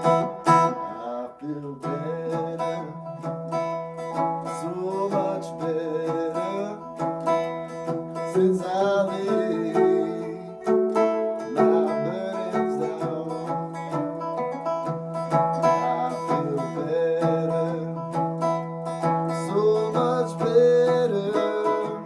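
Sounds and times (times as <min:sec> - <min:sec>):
guitar plucked over drone: 0:01.8 - 0:22.0.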